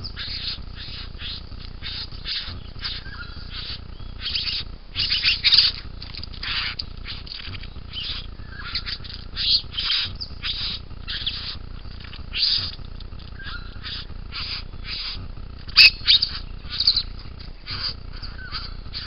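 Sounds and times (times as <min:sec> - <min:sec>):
bird giving harsh buzzy calls: 0:00.0 - 0:19.0.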